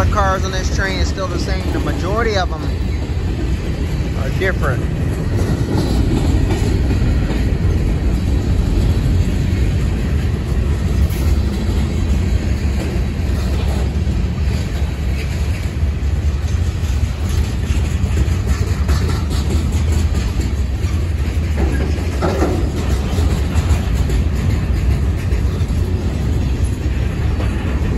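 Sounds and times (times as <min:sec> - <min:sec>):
freight train rolling past: 0:00.0 - 0:27.9.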